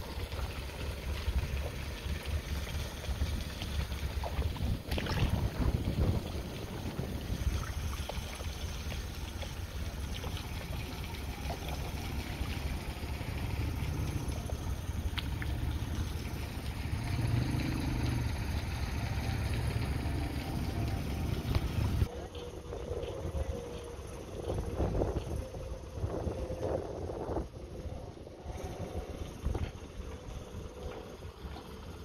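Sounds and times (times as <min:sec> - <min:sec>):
wind buffeting microphone: 0:00.0 - 0:17.3, 0:20.4 - 0:31.5.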